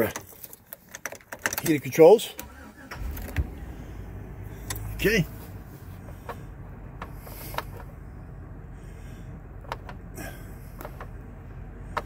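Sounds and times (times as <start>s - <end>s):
engine idling rumble: 1.7s - 12.0s.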